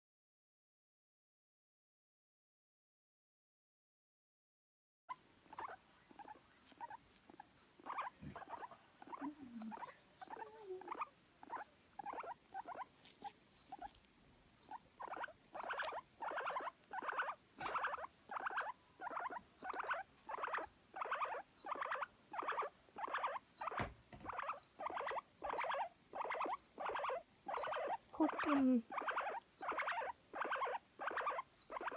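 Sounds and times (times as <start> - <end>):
guinea pig squeaking: 5.1 - 31.9.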